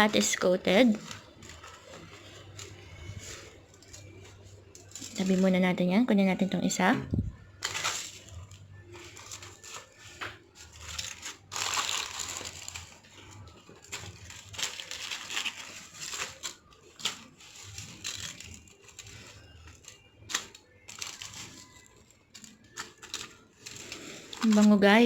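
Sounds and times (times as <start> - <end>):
foil crinkling and scraping: 0.0 - 25.0.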